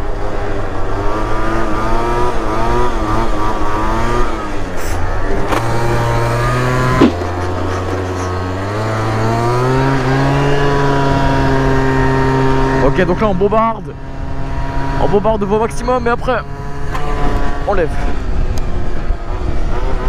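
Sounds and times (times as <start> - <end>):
scooter engine revving: 0.0 - 20.0.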